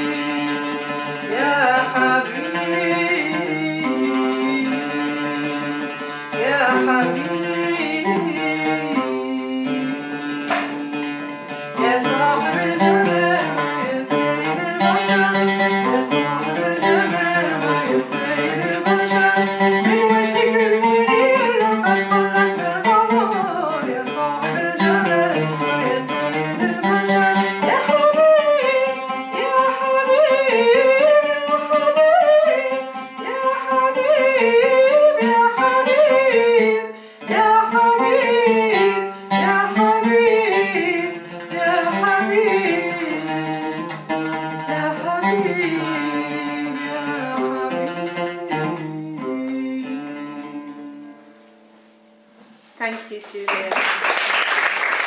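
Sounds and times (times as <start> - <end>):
woman singing: 0.0 - 10.5, 11.7 - 51.2
plucked oud: 0.0 - 52.3.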